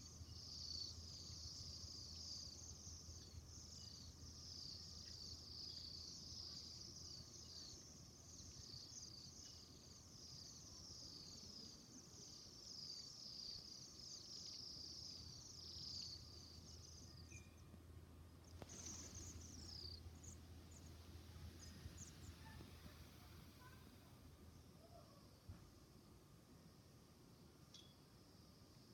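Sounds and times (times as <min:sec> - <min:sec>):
small birds chirping: 0:00.0 - 0:17.7, 0:18.4 - 0:24.2.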